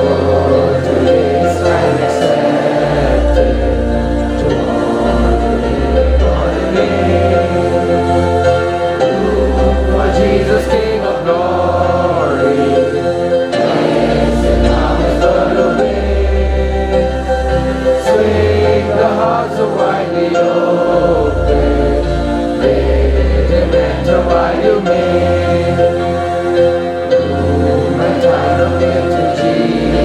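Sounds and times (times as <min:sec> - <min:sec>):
sustained low accompaniment notes: 0:00.0 - 0:30.0
voices singing a hymn: 0:00.0 - 0:30.0.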